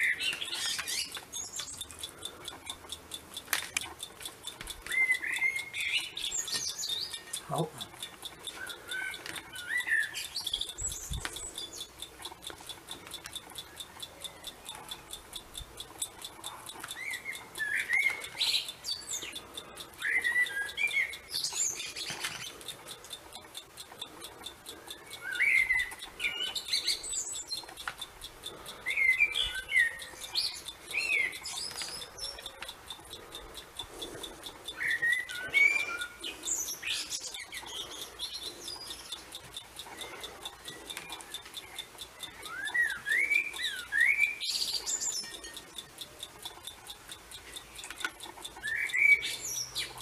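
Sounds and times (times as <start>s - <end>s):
small songbirds chirping: 0.0s - 50.0s.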